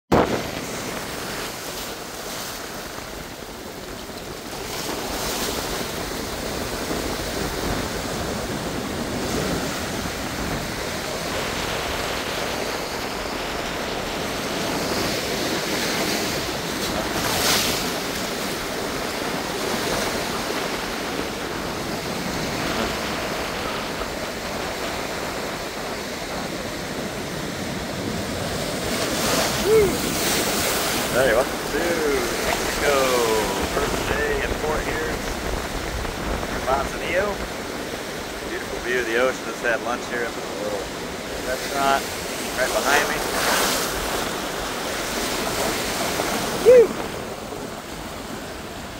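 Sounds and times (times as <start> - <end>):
waves washing over rocky shore: 0.1 - 48.9.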